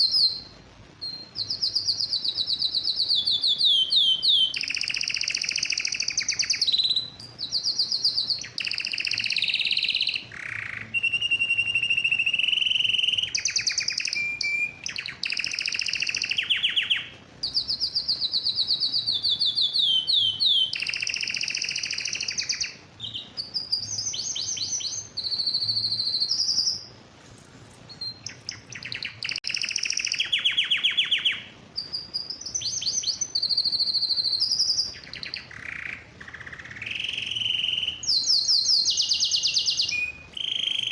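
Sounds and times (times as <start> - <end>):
canary singing trills: 0.0 - 27.0, 27.8 - 40.9.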